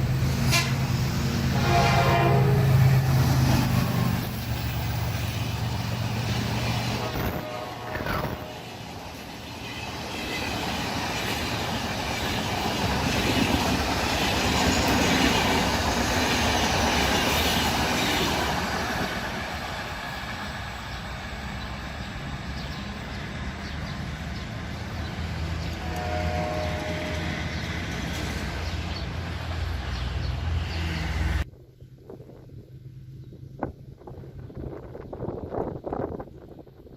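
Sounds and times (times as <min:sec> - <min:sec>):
train wheels rushing: 0:00.0 - 0:31.5.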